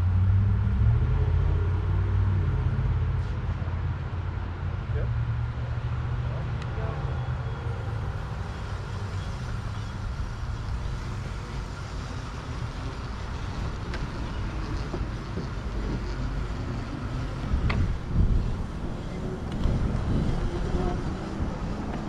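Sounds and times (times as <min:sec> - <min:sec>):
wind and road rush: 0:00.0 - 0:22.0.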